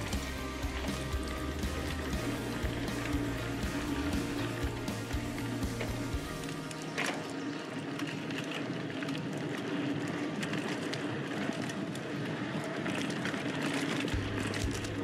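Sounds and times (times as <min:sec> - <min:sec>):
bike rattling and knocking: 0:00.0 - 0:15.0
bike tyres rolling on dirt: 0:00.0 - 0:15.0.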